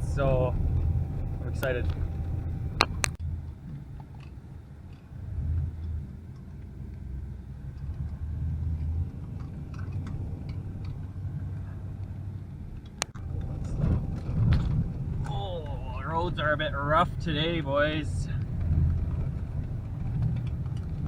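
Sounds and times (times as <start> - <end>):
vehicle rumbling over rough road: 0.0 - 21.0.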